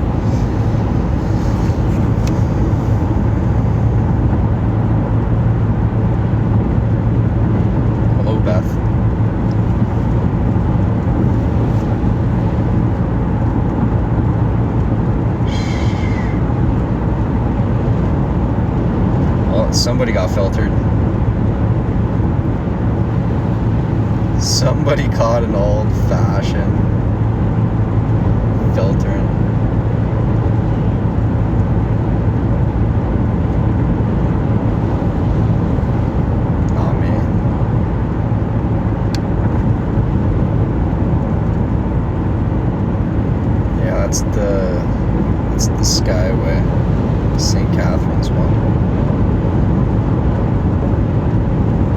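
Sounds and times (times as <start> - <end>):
car cabin road and engine noise: 0.0 - 51.9.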